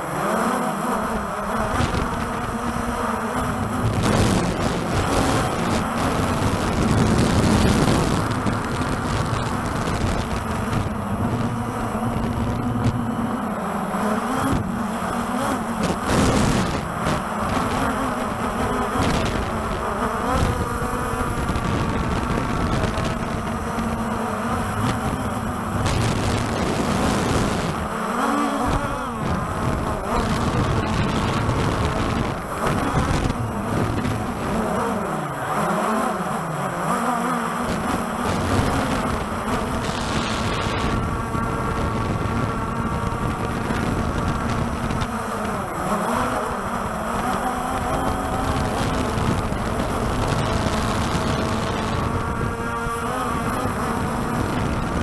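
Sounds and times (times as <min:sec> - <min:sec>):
drone rotors humming: 0:00.0 - 0:55.0
wind buffeting microphone: 0:01.0 - 0:35.1, 0:37.5 - 0:55.0.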